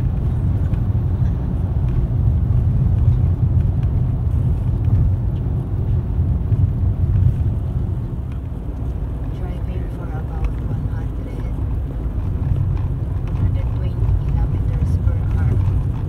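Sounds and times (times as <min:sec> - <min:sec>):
car cabin road and engine rumble: 0:00.0 - 0:16.0.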